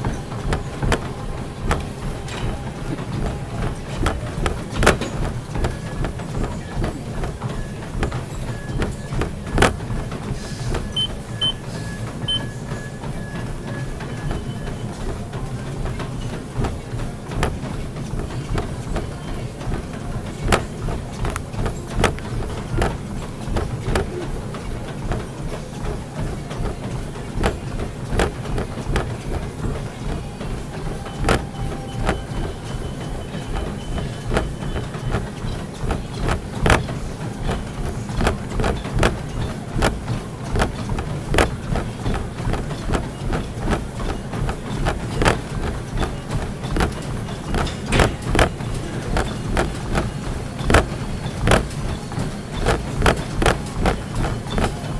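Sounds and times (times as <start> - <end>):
exercise machine low rumble: 0.0 - 54.9
rhythmic knocks and thumps: 0.0 - 54.9.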